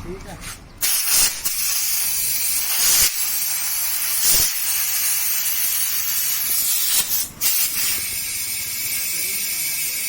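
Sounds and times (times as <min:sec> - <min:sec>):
compressed air hissing into tyre: 0:00.8 - 0:10.0.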